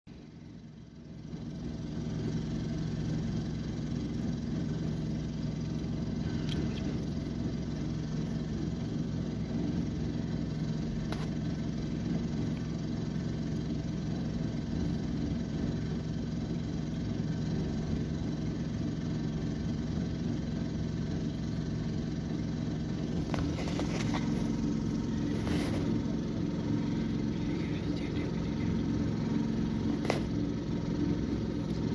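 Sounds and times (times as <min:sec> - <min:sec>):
concrete mixer engine running: 0:00.1 - 0:31.9.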